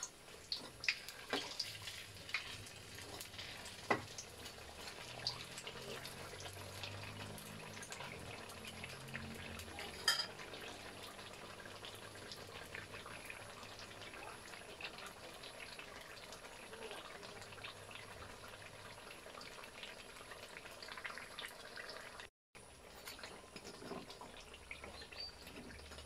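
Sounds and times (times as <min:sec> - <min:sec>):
food deep-frying in hot oil: 0:00.0 - 0:26.0.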